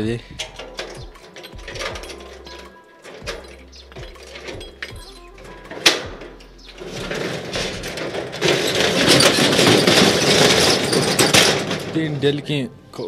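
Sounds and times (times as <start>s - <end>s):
rolling steel shutter rattling: 0.0s - 13.0s.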